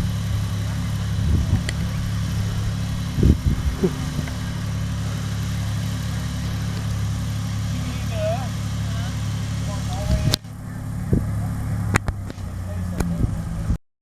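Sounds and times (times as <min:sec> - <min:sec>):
car engine idling: 0:00.0 - 0:13.8.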